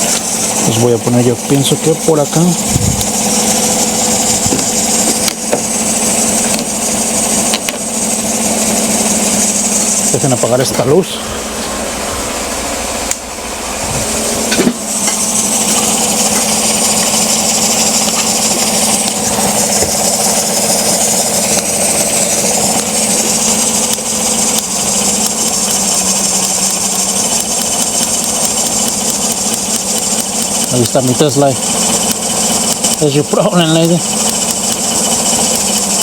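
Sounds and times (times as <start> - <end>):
car engine idling roughly: 0.0 - 36.0
engine knocks: 0.0 - 36.0.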